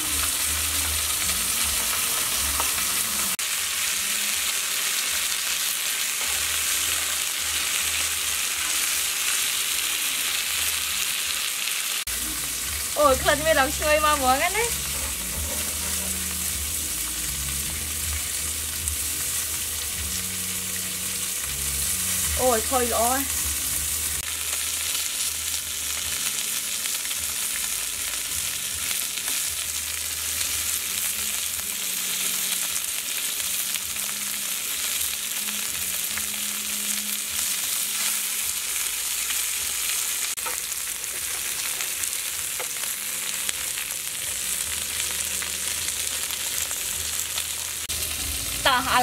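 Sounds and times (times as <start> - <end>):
food sizzling on hot grill pan: 0.0 - 49.0.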